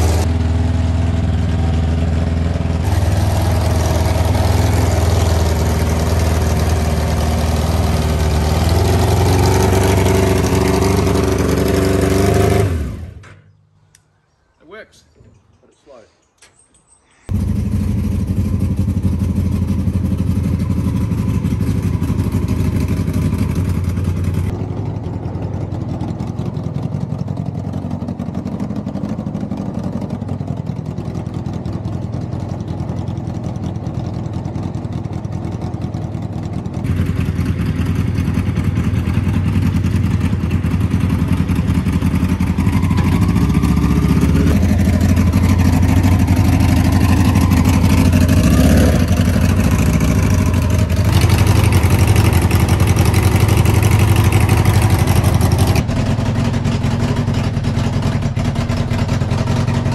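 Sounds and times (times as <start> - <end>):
motorcycle engine idling: 0.0 - 13.8, 17.3 - 59.9.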